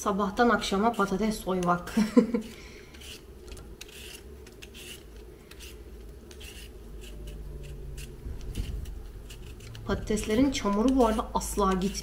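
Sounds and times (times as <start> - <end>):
peeler scraping potato: 0.1 - 12.0.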